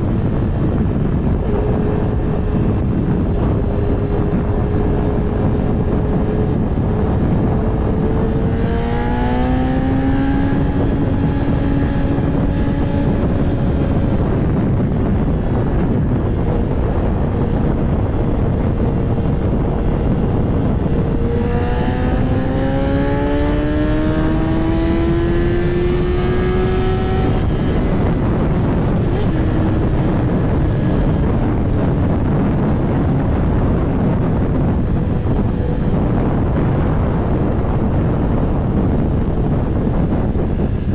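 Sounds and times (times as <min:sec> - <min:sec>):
motorcycle engine accelerating: 0:00.0 - 0:40.9
wind rush: 0:00.0 - 0:40.9.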